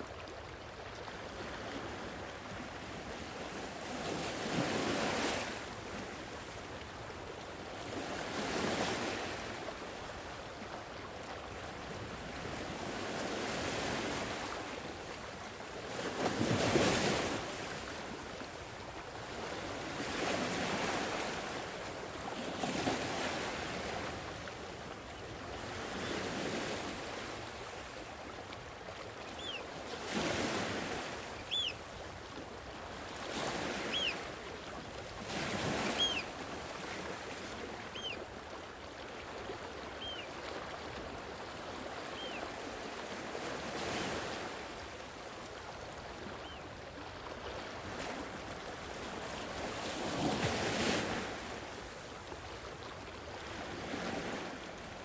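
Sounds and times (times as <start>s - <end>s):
sea waves breaking on shore: 0.0s - 7.1s, 7.8s - 55.0s.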